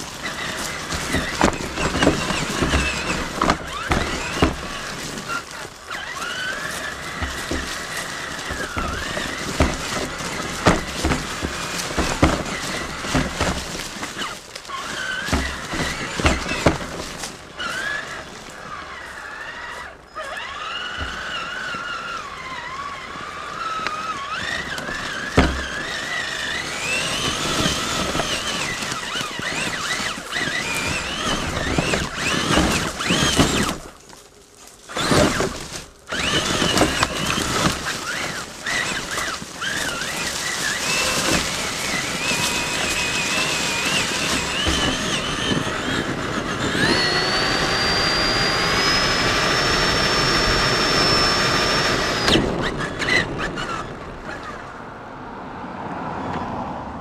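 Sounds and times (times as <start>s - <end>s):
tyres and chassis knocking on rocks: 0.0s - 54.7s
toy truck electric motor whining: 0.0s - 54.9s.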